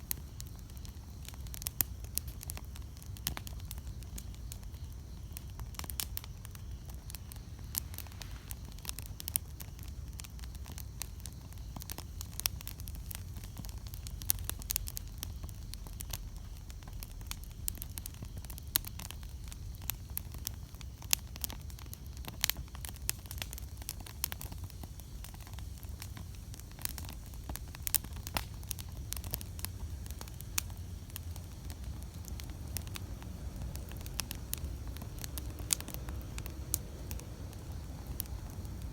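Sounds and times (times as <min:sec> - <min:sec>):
campfire crackling and popping: 0:00.0 - 0:38.9
low rumble of flames: 0:00.0 - 0:38.9.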